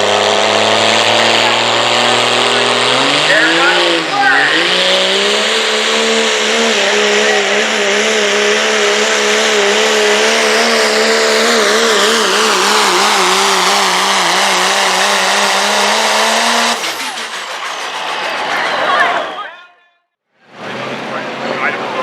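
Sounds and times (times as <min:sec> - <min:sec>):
pickup truck engine at full throttle: 0:00.0 - 0:19.4
high turbo whine: 0:00.0 - 0:19.6.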